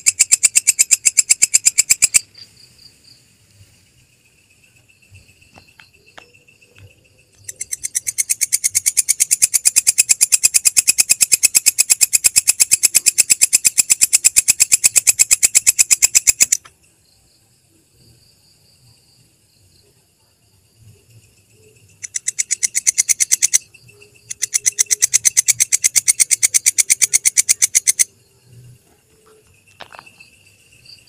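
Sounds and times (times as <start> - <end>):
faint insect trilling: 0.0 - 31.0
katydid stridulating: 0.0 - 31.0.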